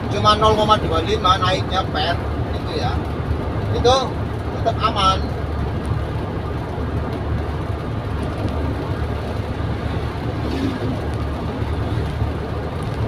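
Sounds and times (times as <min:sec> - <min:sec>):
car engine running steadily: 0:00.0 - 0:13.0
road noise inside cabin: 0:00.0 - 0:13.0.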